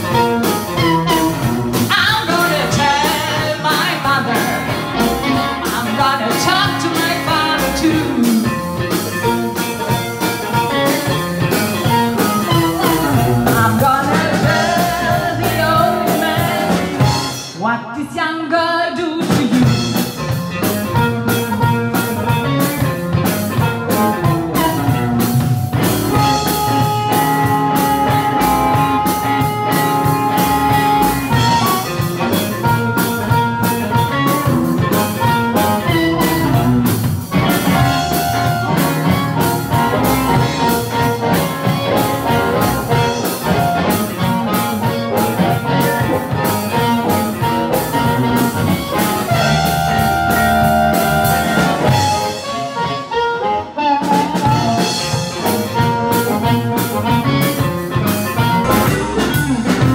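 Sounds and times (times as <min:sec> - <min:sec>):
harmonica wailing high notes: 0:00.0 - 0:17.4, 0:23.5 - 0:59.9
drum kit: 0:00.0 - 0:17.9, 0:19.2 - 0:59.9
electric guitar: 0:00.0 - 0:18.0, 0:18.7 - 0:59.9.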